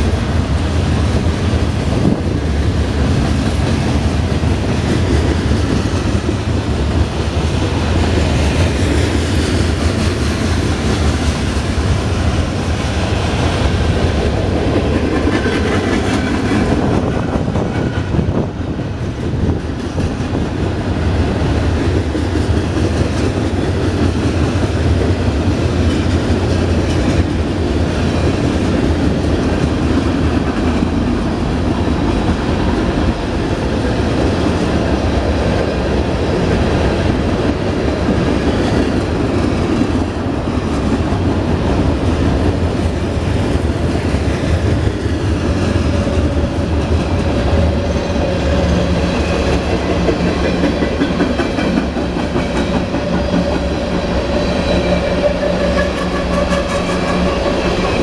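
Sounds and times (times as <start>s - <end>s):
clickety-clack over rail joints: 0.0s - 58.0s
steel wheels rumbling on rails: 0.0s - 58.0s.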